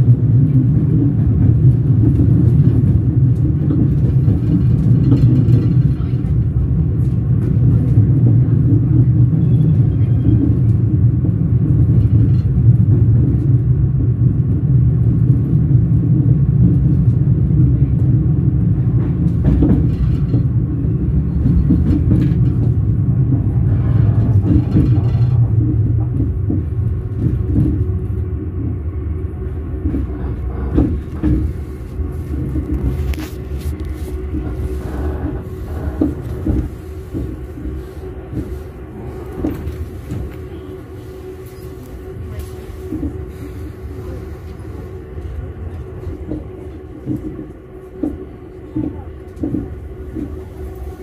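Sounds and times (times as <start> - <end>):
train wheels rolling on rails: 0.0 - 51.0.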